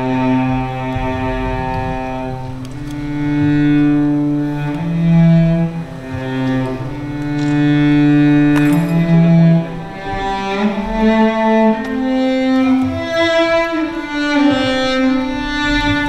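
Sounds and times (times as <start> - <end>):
slow bowed string music: 0.0 - 16.0.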